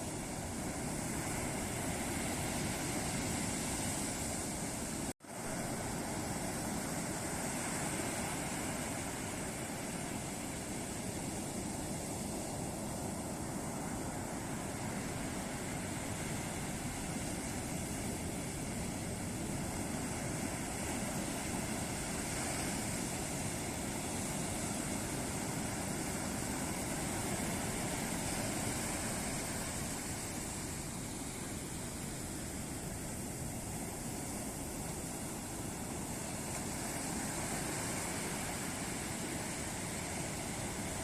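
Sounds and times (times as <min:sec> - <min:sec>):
ocean surf breaking on beach: 0:00.0 - 0:41.0.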